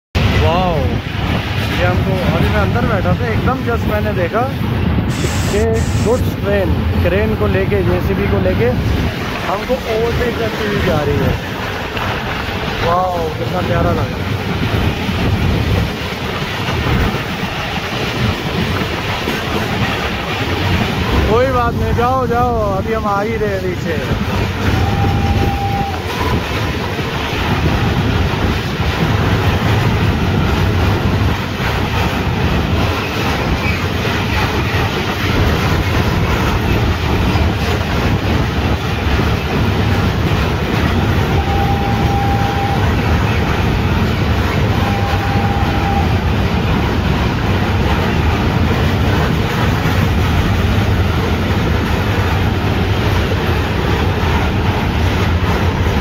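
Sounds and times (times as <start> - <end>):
trains rumbling at speed: 0.1 - 56.0
wheels clattering over rails: 6.4 - 56.0.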